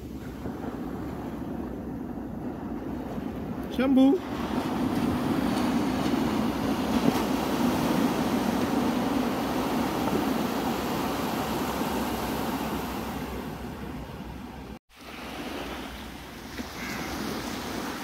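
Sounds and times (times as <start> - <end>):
wind noise: 0.0 - 18.0.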